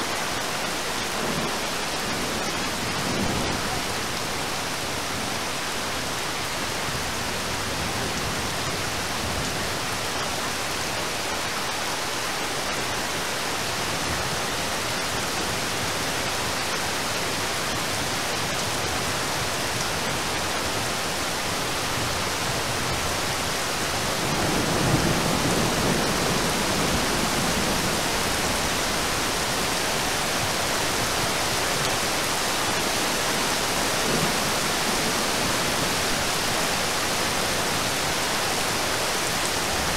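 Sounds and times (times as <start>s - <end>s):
heavy rain on water: 0.0s - 39.9s.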